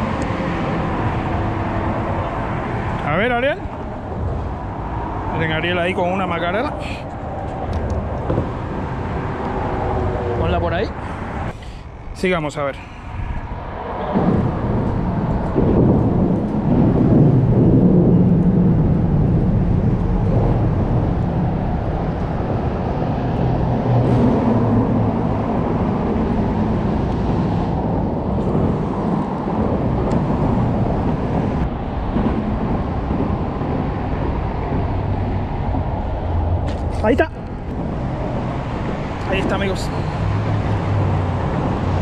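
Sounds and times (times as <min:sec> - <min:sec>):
traffic rumble on bridge: 0:00.0 - 0:42.0.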